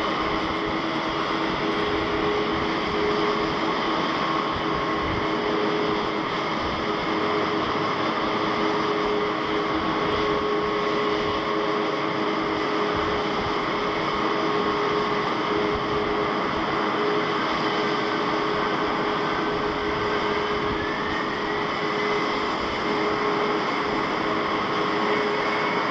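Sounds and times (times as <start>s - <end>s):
jet engines running: 0.0s - 25.9s.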